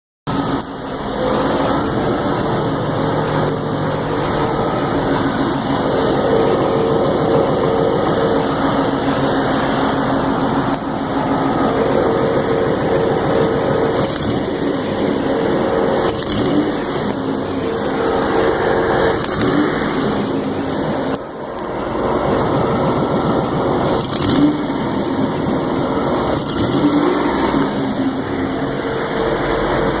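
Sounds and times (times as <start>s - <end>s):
car engine running: 0.3s - 30.0s
engine ticking: 0.3s - 30.0s.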